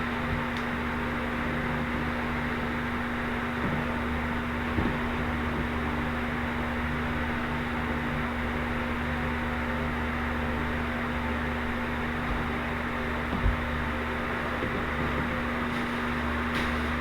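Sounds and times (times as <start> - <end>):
machine hiss and low hum: 0.0 - 17.0.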